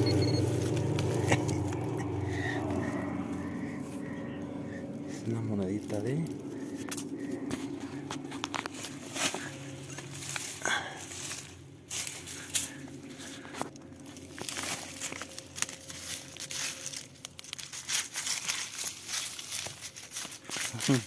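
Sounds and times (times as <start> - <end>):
dry soil and grass crunching: 0.0 - 21.0.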